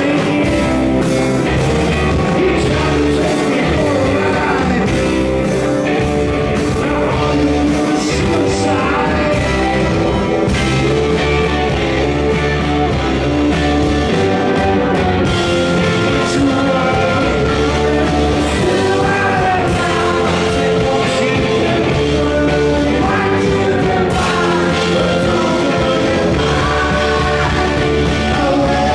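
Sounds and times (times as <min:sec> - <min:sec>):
live rock band playing: 0:00.0 - 0:28.9
man singing lead: 0:00.0 - 0:28.9.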